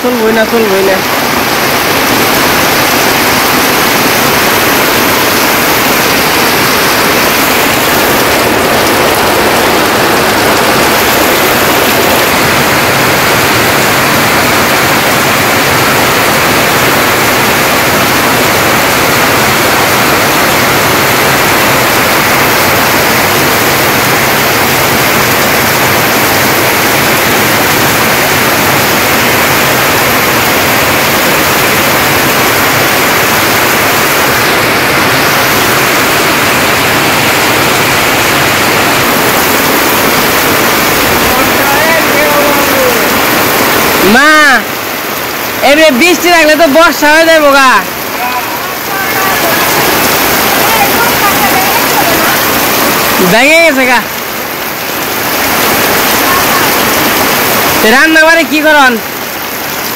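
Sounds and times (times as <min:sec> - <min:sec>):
heavy rain on tin roofs: 0:00.0 - 0:59.9.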